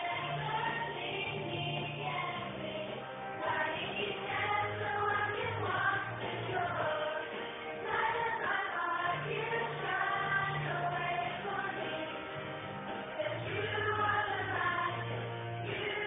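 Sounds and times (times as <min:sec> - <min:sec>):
children's choir singing: 0:00.0 - 0:12.4, 0:13.0 - 0:16.0
electric organ low notes: 0:00.0 - 0:16.0.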